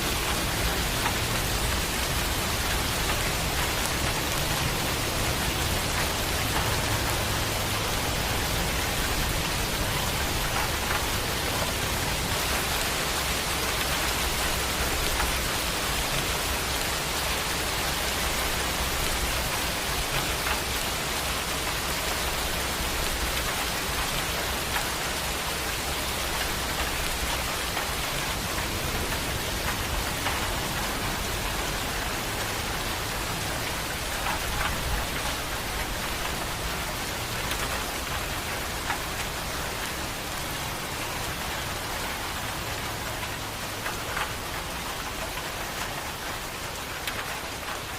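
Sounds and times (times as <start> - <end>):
rain pattering: 0.0 - 47.9.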